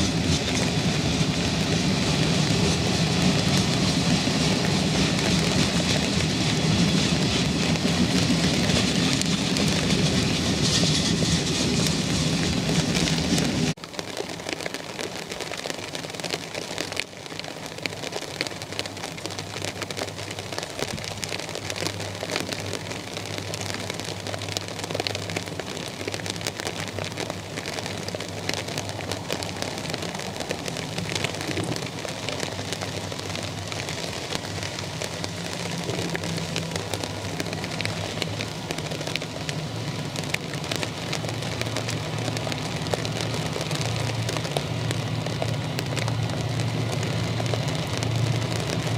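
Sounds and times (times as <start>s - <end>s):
rain pattering: 0.0s - 48.9s.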